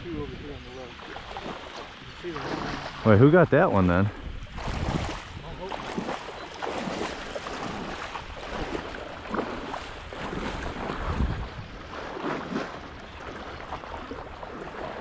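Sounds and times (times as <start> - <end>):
wind rumbling on microphone: 0.0 - 15.0
legs sloshing through water: 0.8 - 15.0.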